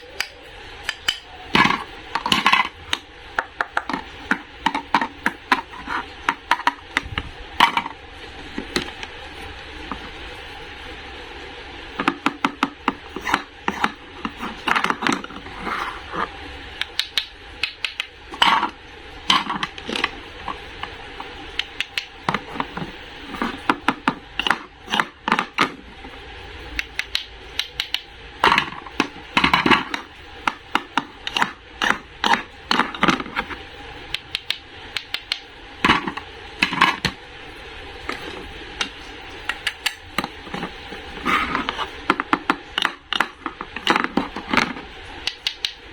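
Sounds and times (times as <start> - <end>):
hard objects clicking and knocking: 0.0 - 8.0, 12.0 - 25.8, 26.8 - 37.2, 38.0 - 45.8.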